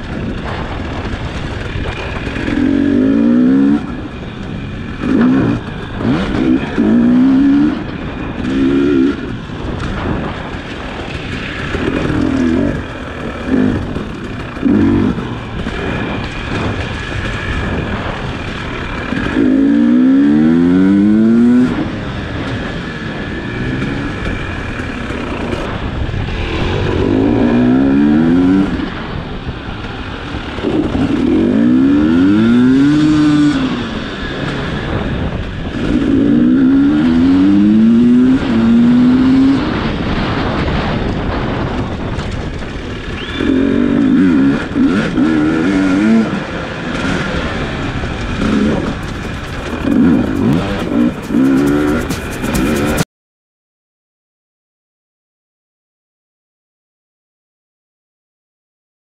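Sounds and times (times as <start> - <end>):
motorcycle engine revving: 0.0 - 53.1.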